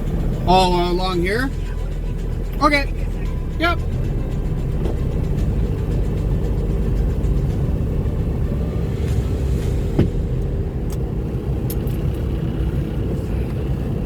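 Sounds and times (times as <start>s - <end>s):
truck diesel engine rumbling: 0.0s - 14.0s.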